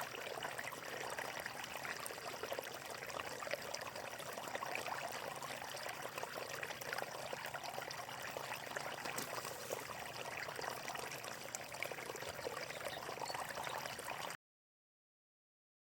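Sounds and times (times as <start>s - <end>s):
water flowing and splashing: 0.0s - 14.4s.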